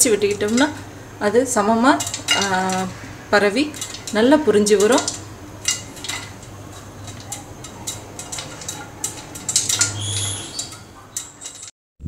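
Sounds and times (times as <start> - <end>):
popcorn popping in a pot: 0.0 - 11.7
pot rattling on stove grate: 0.0 - 11.7.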